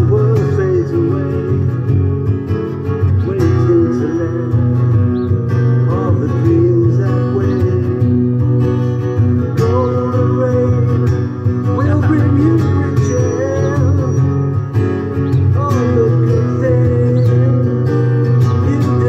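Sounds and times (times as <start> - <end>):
acoustic guitar strumming: 0.0 - 19.0
man singing: 0.0 - 19.0.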